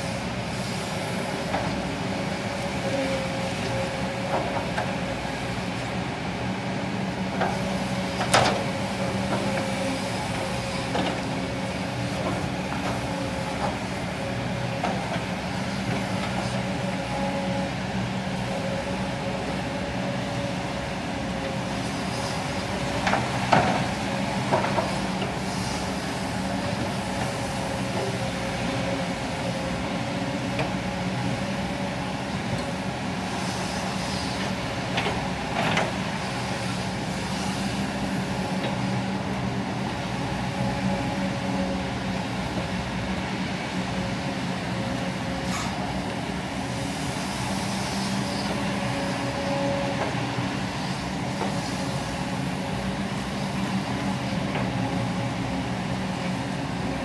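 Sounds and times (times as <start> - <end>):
excavator diesel engines droning: 0.0 - 57.0.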